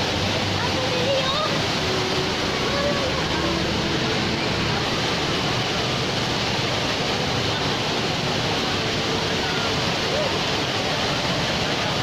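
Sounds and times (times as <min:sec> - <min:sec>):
faint crowd voices: 0:00.0 - 0:12.0
indoor waterfall roaring: 0:00.0 - 0:12.0.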